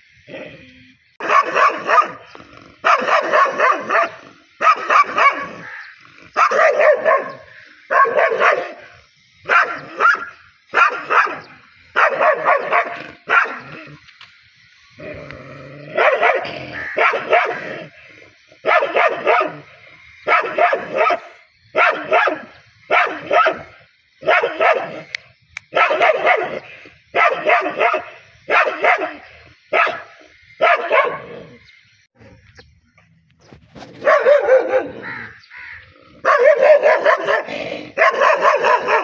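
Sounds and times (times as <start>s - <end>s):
dog barking angrily: 1.2s - 14.0s, 15.0s - 31.6s, 33.9s - 39.0s.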